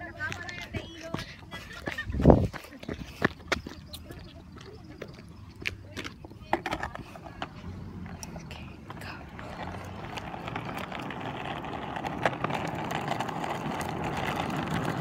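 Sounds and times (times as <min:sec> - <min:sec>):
skateboard wheels rolling on pavement: 0:00.0 - 0:15.0.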